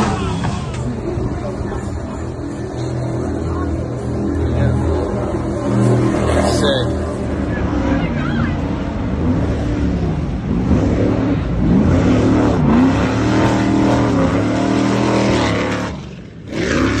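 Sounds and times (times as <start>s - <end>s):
powerboat engines revving: 0.0s - 17.0s.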